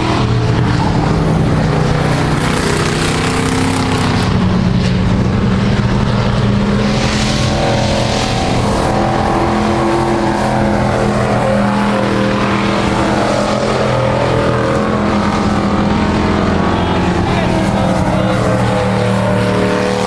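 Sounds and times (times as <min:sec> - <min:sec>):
racing truck engines: 0:00.0 - 0:20.0.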